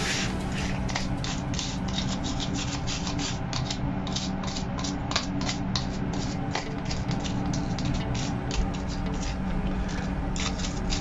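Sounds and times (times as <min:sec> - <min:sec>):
toothbrush scrubbing plastic filter: 0:00.0 - 0:11.0.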